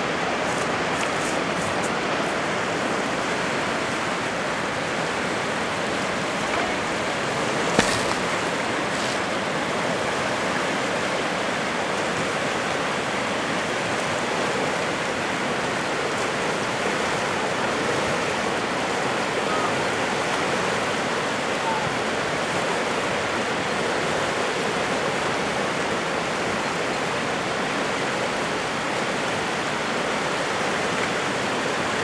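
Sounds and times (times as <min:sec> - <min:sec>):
whitewater rushing through rapids: 0:00.0 - 0:32.0.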